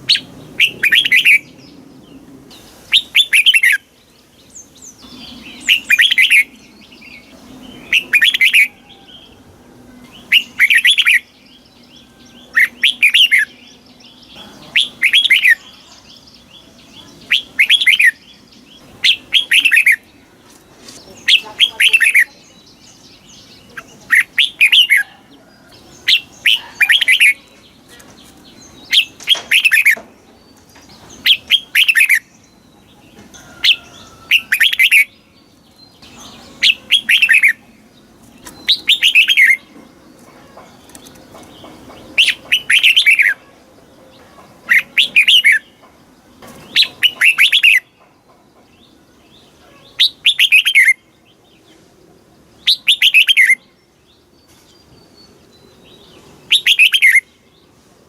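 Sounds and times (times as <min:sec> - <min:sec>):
bird singing bright phrases: 0:00.0 - 0:58.0.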